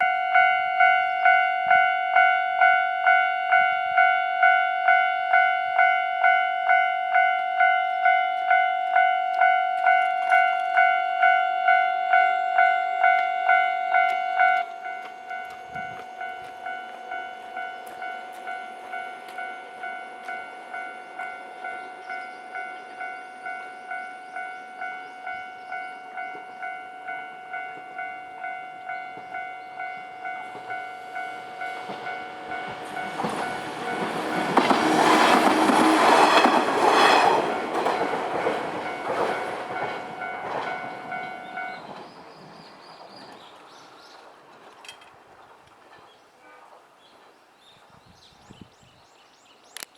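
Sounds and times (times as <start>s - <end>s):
level crossing warning bell ringing: 0.0s - 42.2s.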